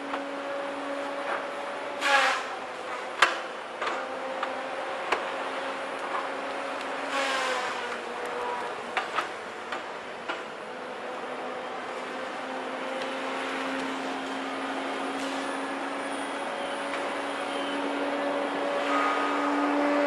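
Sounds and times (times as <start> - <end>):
engine and hydraulic whine: 0.0 - 20.0.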